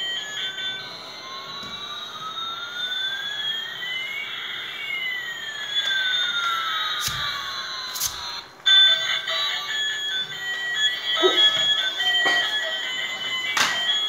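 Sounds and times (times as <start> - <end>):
toy jet engine whine: 0.0 - 14.0.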